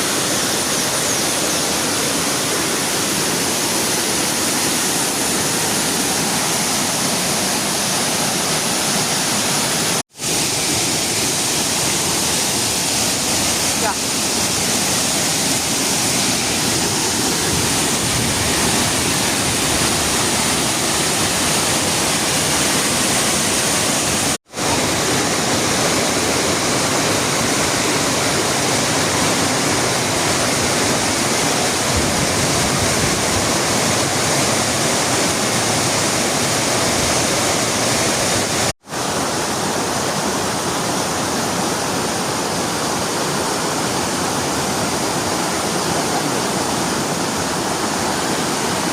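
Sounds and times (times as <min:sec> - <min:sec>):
rushing water: 0:00.0 - 0:48.9.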